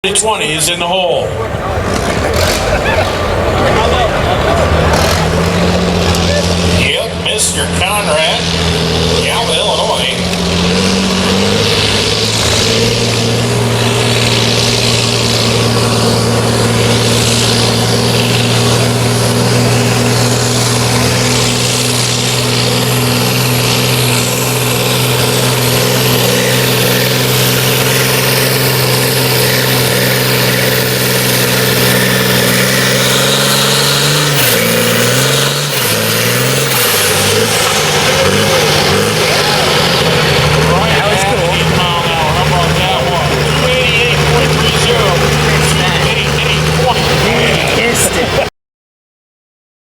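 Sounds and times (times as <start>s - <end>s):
tractor diesel engine under load: 0.0s - 48.5s.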